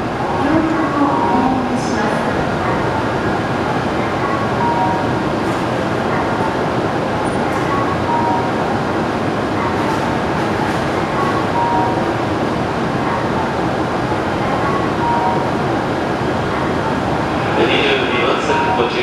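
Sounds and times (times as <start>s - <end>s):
train platform noise: 0.0s - 19.0s.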